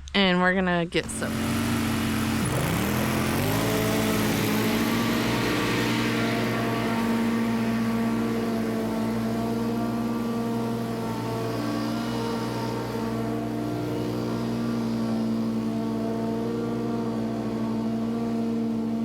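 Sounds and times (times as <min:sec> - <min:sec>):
mower engine running: 0:01.0 - 0:19.0.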